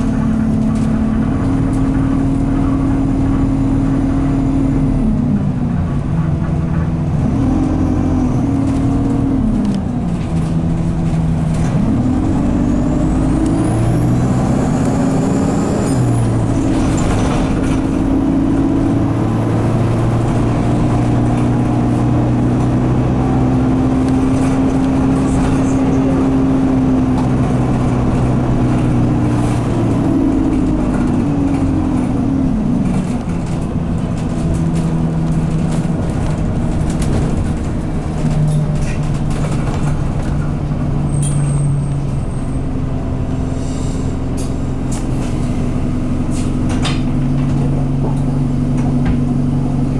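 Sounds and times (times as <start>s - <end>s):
bus engine pulling: 0.0s - 49.9s.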